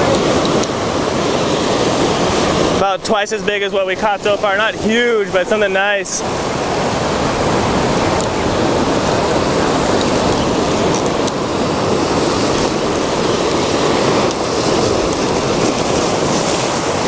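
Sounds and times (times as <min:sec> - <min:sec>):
surf washing against rocks: 0:00.0 - 0:17.0.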